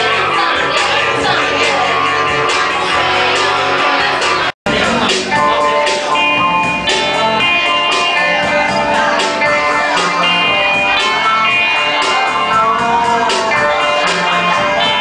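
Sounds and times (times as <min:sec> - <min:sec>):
band music led by guitar: 0:00.0 - 0:15.0.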